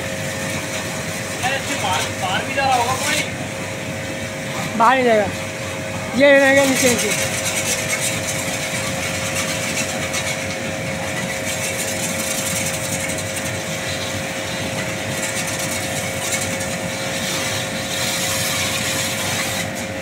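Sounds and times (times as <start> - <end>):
motor running with hiss and hum: 0.0 - 20.0.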